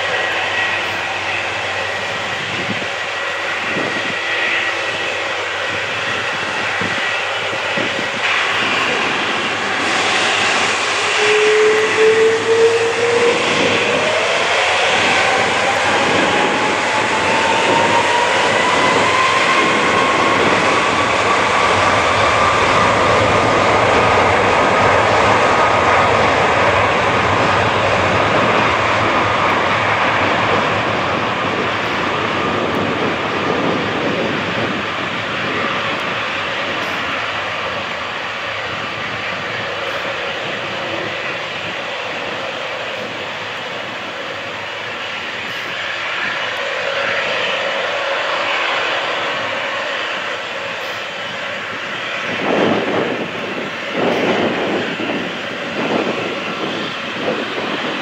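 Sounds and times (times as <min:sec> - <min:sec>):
jet engine rushing noise: 0:00.0 - 0:58.0
jet engine whine rising: 0:00.0 - 0:58.0.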